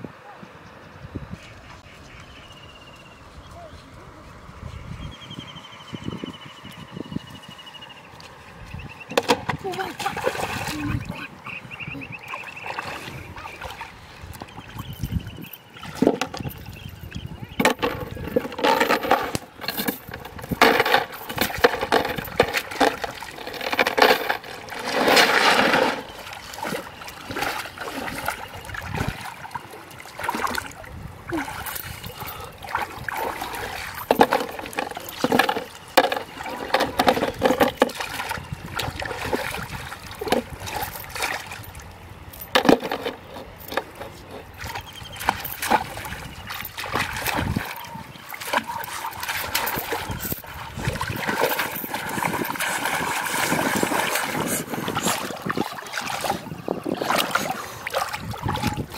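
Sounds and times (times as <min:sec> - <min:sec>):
river water splashing: 0:07.8 - 0:58.9.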